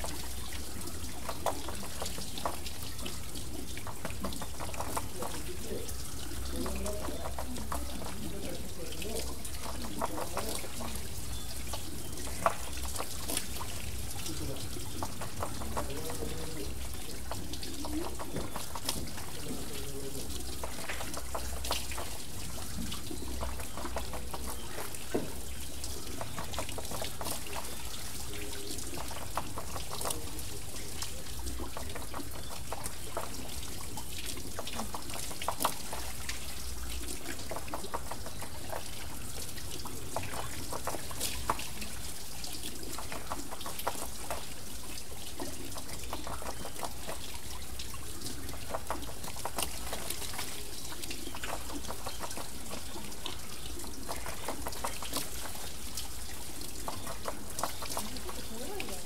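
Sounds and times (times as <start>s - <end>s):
water dripping: 0.0s - 59.0s
water splashing off water wheel: 0.0s - 59.0s.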